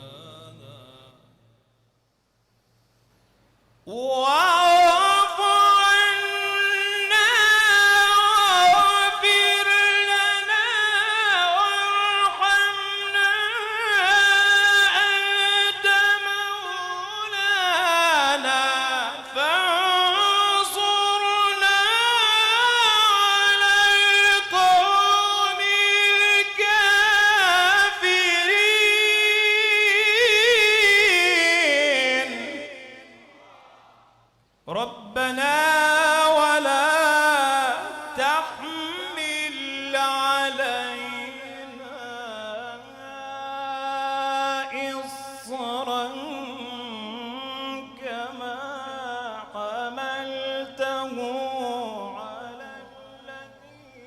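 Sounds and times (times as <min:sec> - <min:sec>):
person reciting melodically: 0:00.0 - 0:01.3, 0:03.8 - 0:33.5, 0:34.6 - 0:54.0.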